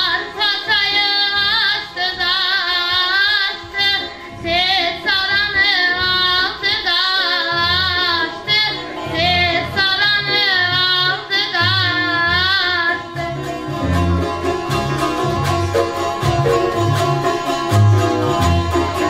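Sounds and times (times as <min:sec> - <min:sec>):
plucked lute: 0:00.0 - 0:19.0.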